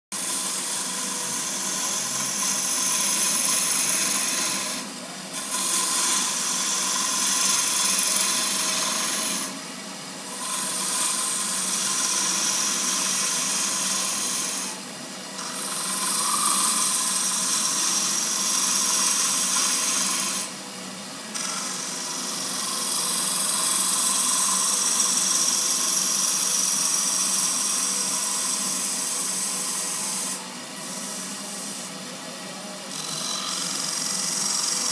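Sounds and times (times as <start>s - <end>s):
turning tool cutting wood: 0.2s - 9.6s, 10.2s - 20.6s, 21.3s - 32.1s, 32.9s - 34.9s
wood lathe running: 0.2s - 20.6s, 21.2s - 34.9s.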